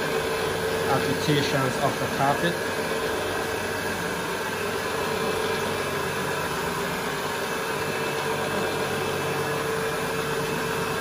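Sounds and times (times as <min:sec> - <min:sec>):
carpet machine motor hum: 0:00.0 - 0:11.0.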